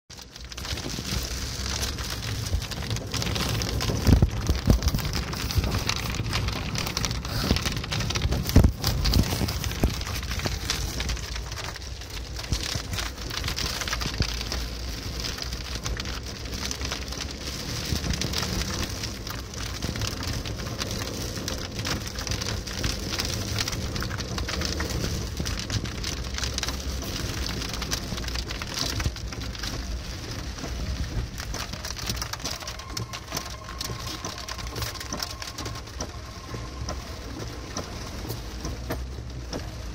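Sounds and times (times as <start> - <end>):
car running rumble: 0.1 - 39.9
rain on car windscreen: 0.1 - 39.9.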